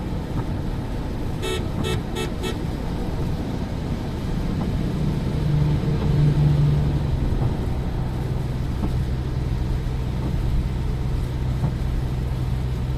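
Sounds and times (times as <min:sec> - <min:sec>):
car engine and road rumble: 0:00.0 - 0:12.9.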